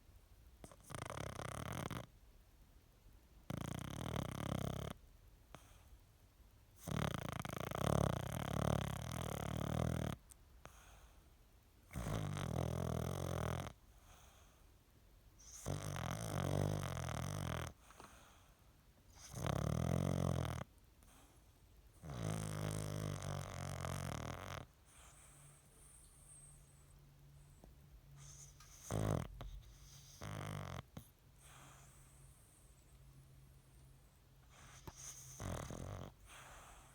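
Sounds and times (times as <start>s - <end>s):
dog snoring: 0.6s - 2.1s, 3.5s - 5.9s, 6.8s - 11.2s, 11.9s - 14.6s, 15.4s - 18.5s, 19.1s - 21.4s, 22.0s - 26.9s, 27.5s - 32.8s, 33.8s - 36.9s.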